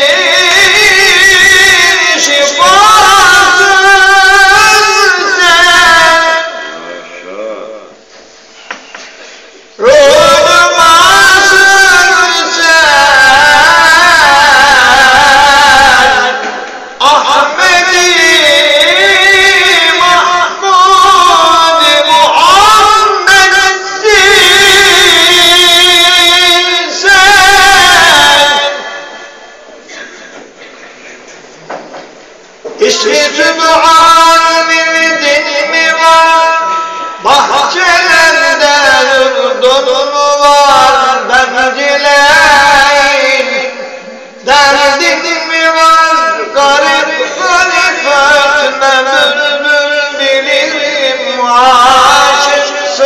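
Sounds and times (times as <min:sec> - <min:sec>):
elderly man singing unaccompanied: 0:00.0 - 0:06.6, 0:09.8 - 0:28.9, 0:32.8 - 0:53.0.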